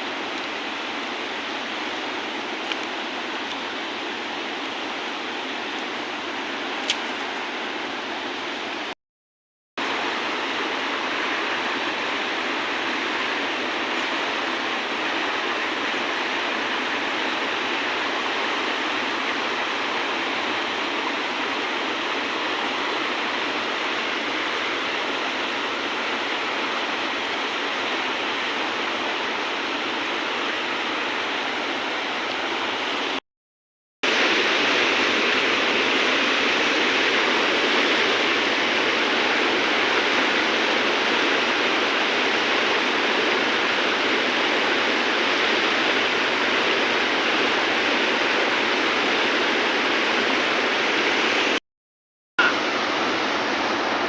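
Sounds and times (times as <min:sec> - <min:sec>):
river water rushing: 0:00.0 - 0:08.9, 0:09.8 - 0:33.2, 0:34.0 - 0:51.6, 0:52.4 - 0:54.0.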